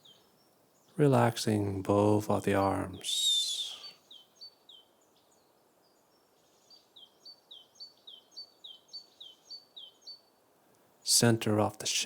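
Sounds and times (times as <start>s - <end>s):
songbird chirping: 0.0s - 11.9s
soft background hiss: 0.0s - 12.0s.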